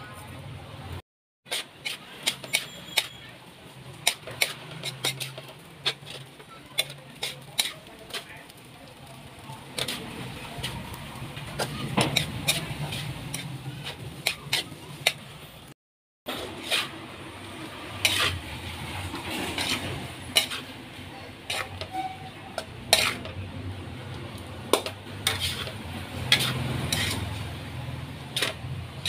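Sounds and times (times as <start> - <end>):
spatula scraping a metal wok: 1.5 - 15.7, 16.3 - 29.0.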